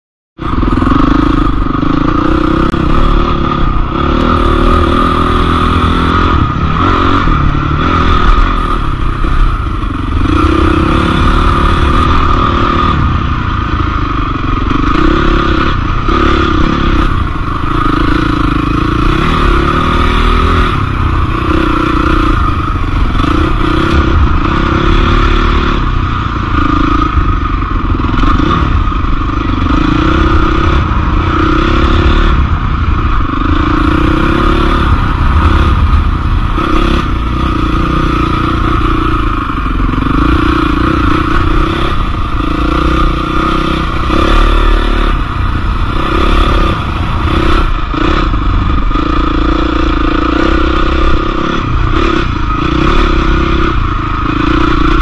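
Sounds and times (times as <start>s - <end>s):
motorcycle engine revving: 0.4s - 55.0s.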